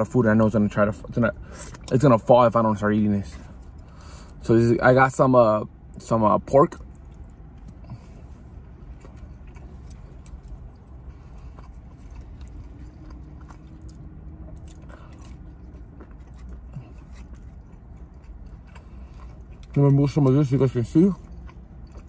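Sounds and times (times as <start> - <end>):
person chewing meat: 1.3 - 2.0, 2.7 - 4.5, 6.8 - 22.0.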